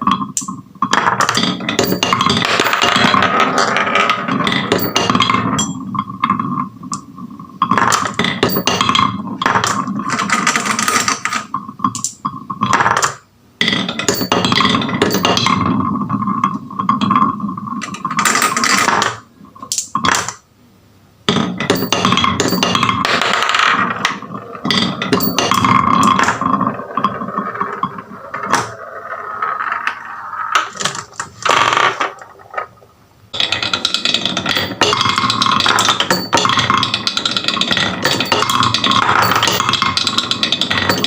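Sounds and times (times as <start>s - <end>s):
marbles rolling down wooden slopes: 0.8s - 6.8s, 7.6s - 11.5s, 13.7s - 19.2s, 21.5s - 41.0s.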